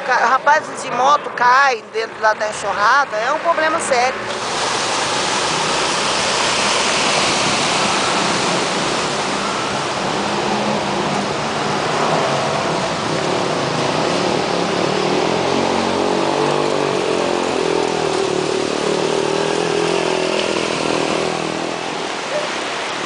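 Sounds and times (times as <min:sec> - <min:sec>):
rushing water: 0:00.0 - 0:23.0.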